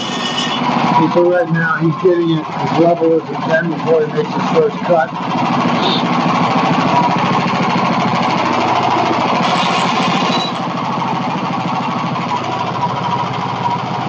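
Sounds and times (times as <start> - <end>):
small gas engine chugging: 0.0 - 14.0.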